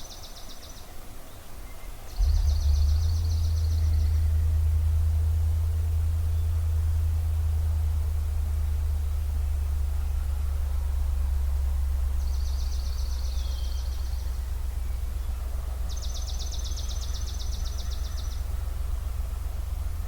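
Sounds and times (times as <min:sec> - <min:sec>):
steady low rumble: 0:02.1 - 0:20.0.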